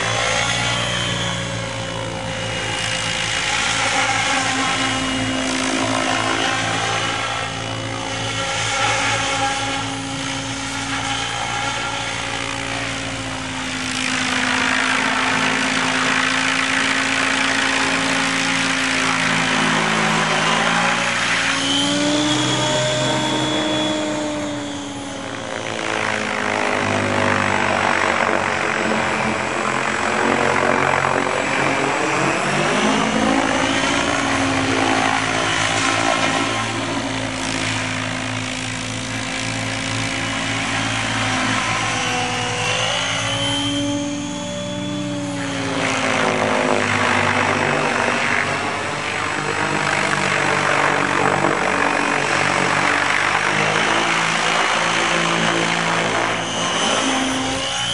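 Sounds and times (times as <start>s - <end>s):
model helicopter rotor whine: 0.0s - 57.9s.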